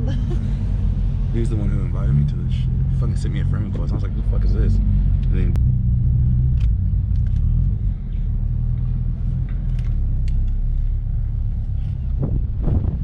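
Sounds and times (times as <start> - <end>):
car engine low drone: 0.0 - 13.0.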